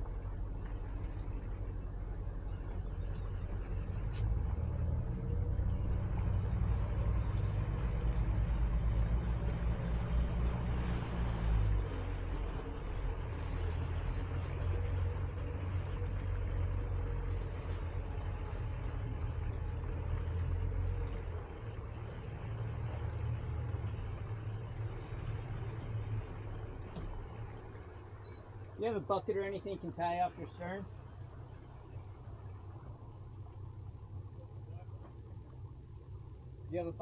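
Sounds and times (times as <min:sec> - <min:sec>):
boat engine low rumble: 0:00.0 - 0:37.0.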